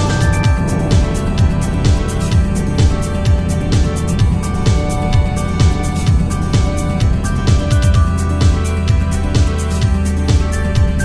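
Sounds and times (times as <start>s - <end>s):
electronic music: 0.0s - 11.0s
kick drum: 0.0s - 11.0s
sustained synth notes: 0.0s - 11.0s.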